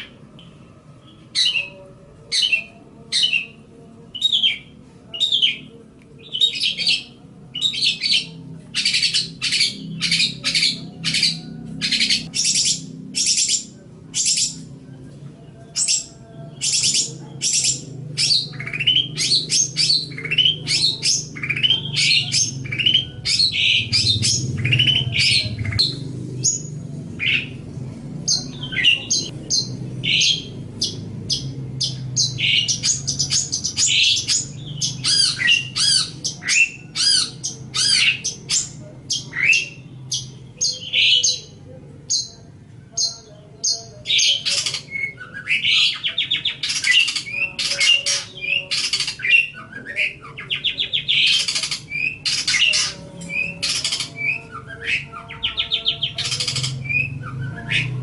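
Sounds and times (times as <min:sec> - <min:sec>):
bird chattering song: 0:04.2 - 0:14.7, 0:15.4 - 0:58.0.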